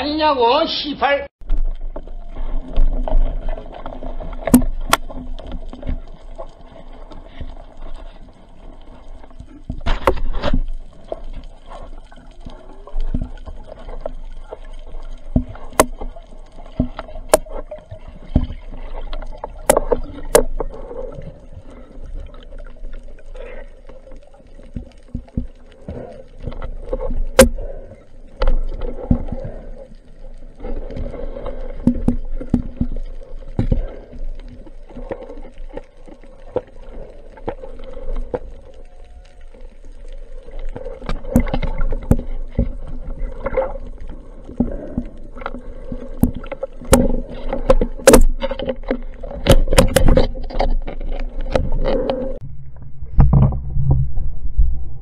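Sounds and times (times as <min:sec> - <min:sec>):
underwater moving water: 0:01.4 - 0:55.0.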